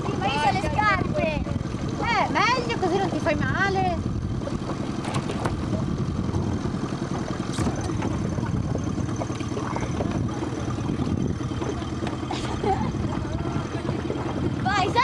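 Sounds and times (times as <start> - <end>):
outboard motor idling: 0.0 - 15.0
water splashes: 0.0 - 15.0.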